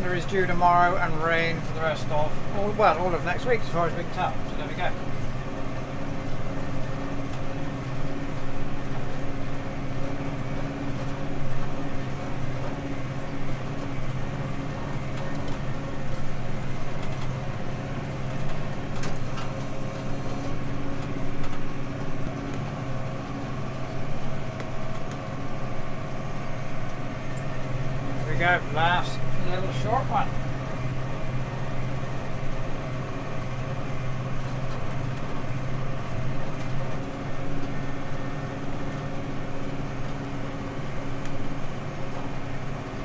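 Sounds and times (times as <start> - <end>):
tractor engine under load: 0.0 - 43.0.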